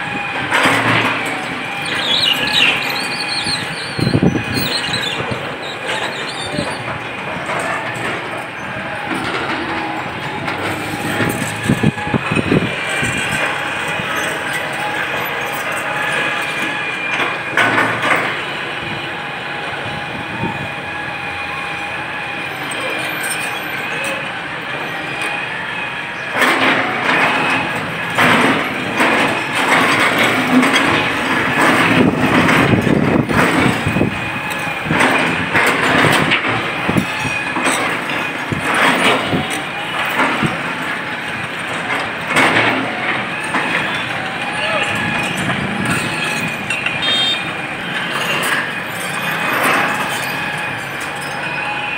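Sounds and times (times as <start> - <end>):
excavator running with whine: 0.0 - 51.9.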